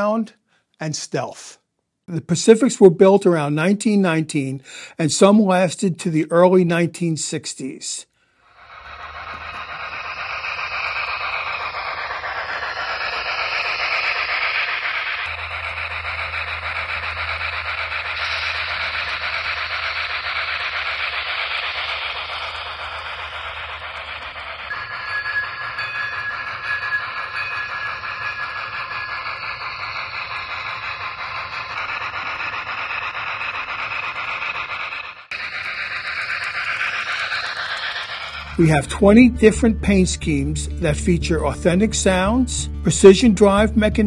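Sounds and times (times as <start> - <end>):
steady steam hiss: 2.3 - 44.0
thin steady tone: 2.5 - 44.0.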